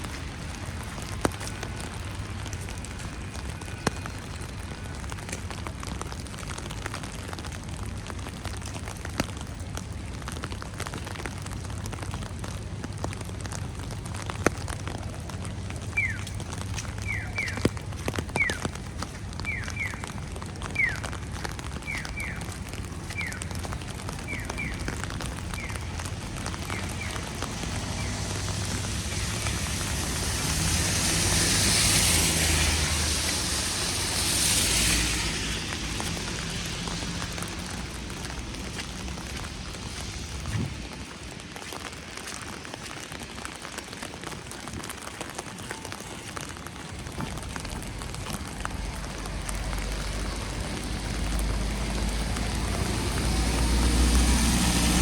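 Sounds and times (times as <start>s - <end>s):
sharp drips: 0.0s - 55.0s
wet snow pattering: 0.0s - 55.0s.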